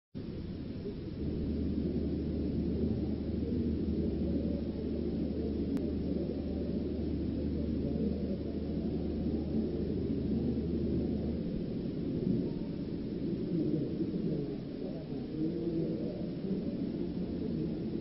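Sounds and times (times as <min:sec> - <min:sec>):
hum: 0:00.2 - 0:18.0
steady low rumble: 0:00.2 - 0:18.0.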